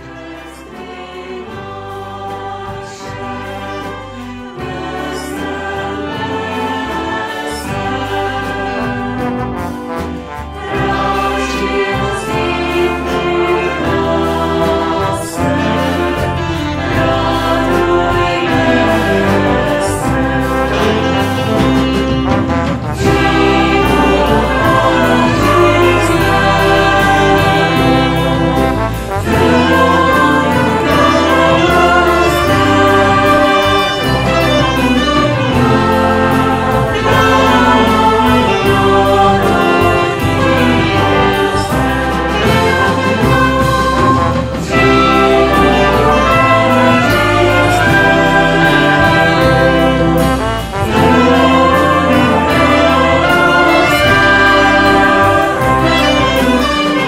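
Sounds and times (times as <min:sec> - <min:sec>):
choir singing: 0:00.0 - 0:57.0
swing big band music: 0:00.0 - 0:57.0.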